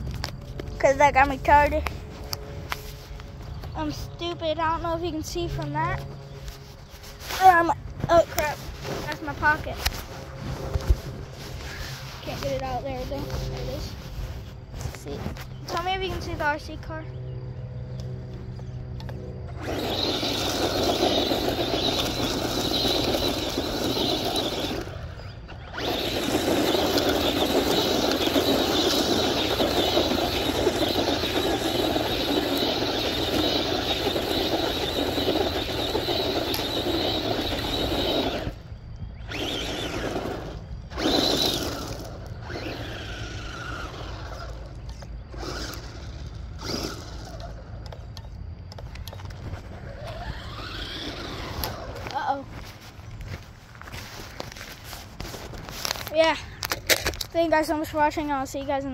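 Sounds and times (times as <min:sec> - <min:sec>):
tyres crunching on gravel: 0:00.0 - 0:17.1, 0:19.2 - 0:58.9
electric motor whine: 0:00.0 - 0:56.1.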